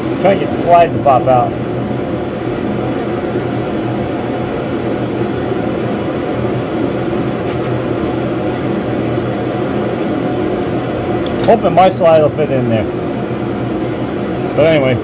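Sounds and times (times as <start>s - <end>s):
heater running with low hum: 0.0s - 15.0s.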